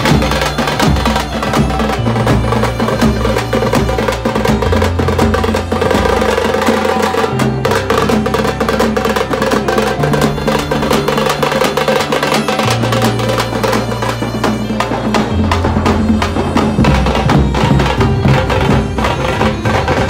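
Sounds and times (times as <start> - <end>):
deep bass line: 0.0 - 20.0
fast busy drumming: 0.0 - 20.0.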